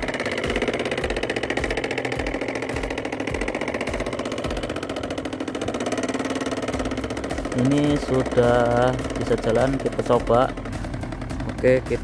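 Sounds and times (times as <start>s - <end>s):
small diesel engine chugging: 0.0s - 12.0s.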